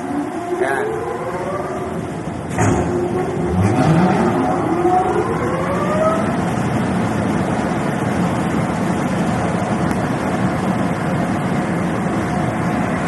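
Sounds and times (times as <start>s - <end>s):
blower fans starting up: 0.0s - 13.0s.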